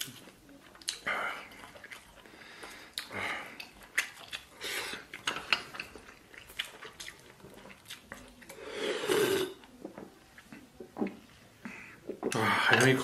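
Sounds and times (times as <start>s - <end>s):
person chewing and slurping noodles: 0.0s - 11.3s.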